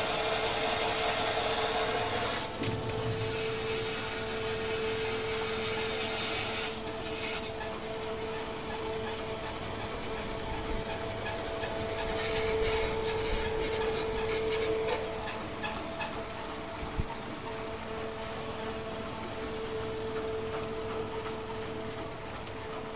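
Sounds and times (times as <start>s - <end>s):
machine hum with whine: 0.0s - 22.9s.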